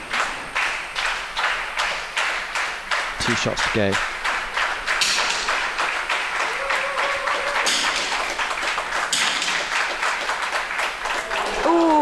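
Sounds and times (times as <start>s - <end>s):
spectators clapping and tapping: 0.0s - 12.0s.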